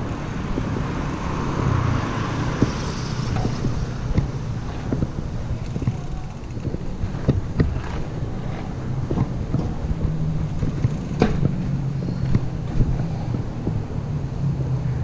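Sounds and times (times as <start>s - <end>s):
bike clicks and knocks: 0.0s - 1.4s, 2.1s - 14.0s
wind rumbling on microphone: 0.0s - 15.0s.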